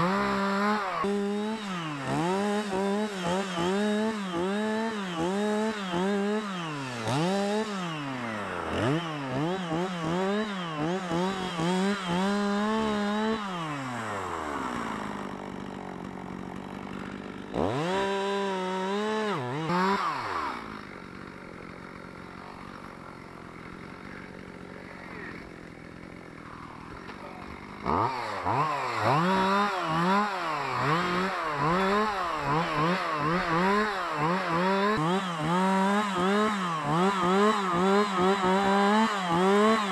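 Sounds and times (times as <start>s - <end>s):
chainsaw engine revving: 0.0s - 39.9s
chainsaw idling: 0.0s - 39.9s.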